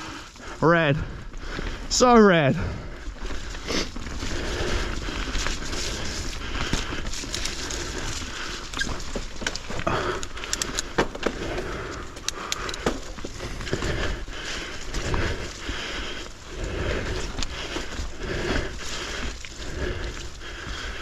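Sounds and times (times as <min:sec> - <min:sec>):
bike clicking and rattling: 0:00.0 - 0:21.0
bike tyres on dirt trail: 0:00.0 - 0:21.0.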